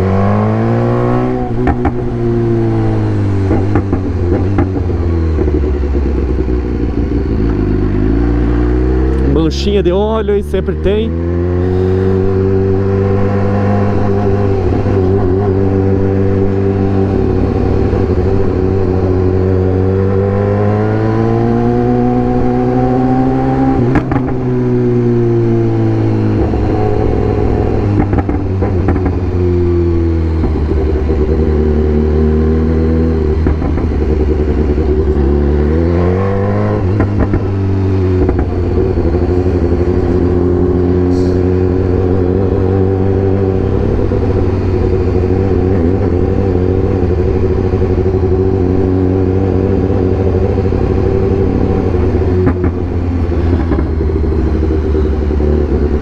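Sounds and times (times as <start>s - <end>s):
motorcycle engine running: 1.3s - 56.0s.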